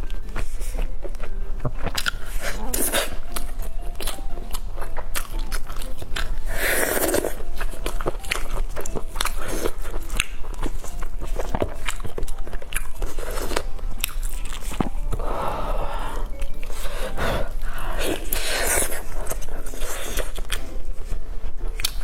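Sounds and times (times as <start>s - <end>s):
biting and chewing meat: 0.0s - 22.0s.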